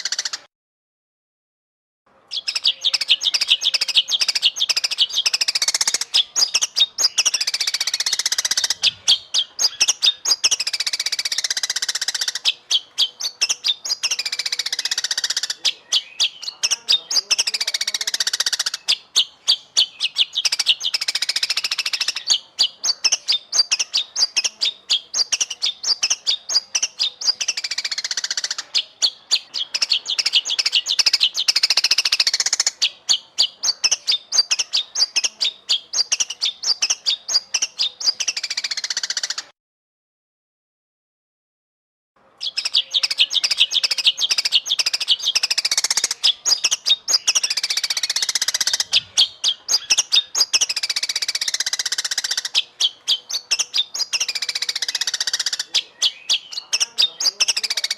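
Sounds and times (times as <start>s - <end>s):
songbird singing: 2.1s - 39.5s, 42.2s - 57.9s.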